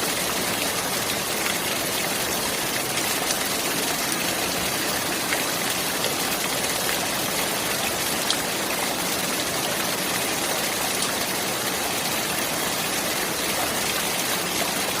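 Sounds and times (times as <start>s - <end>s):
running water flowing: 0.0s - 15.0s.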